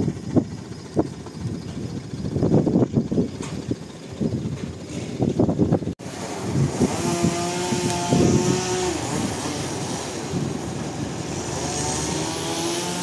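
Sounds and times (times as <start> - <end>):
sawmill machinery droning: 0.0 - 13.0.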